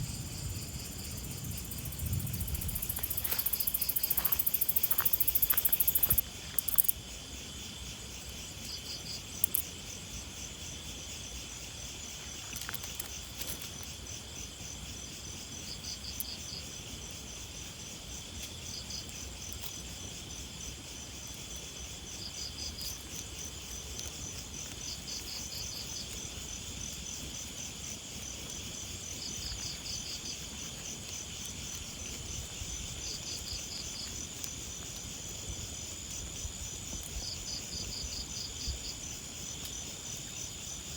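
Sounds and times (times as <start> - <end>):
insects chirping in grass: 0.0 - 40.9.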